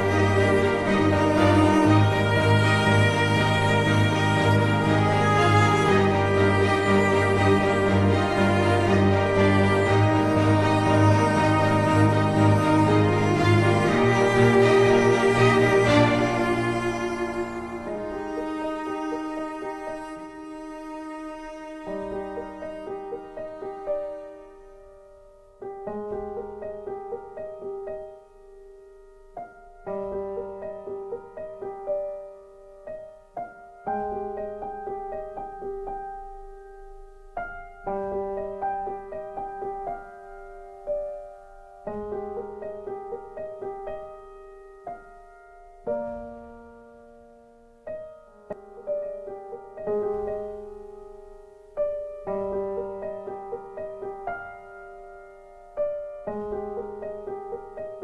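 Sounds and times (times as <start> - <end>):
gentle piano music: 0.0 - 58.0.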